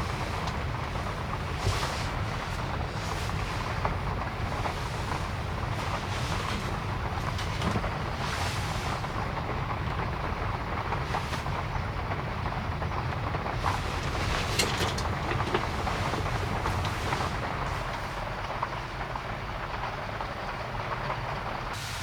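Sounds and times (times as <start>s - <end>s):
vehicle on wet road: 0.0s - 22.0s.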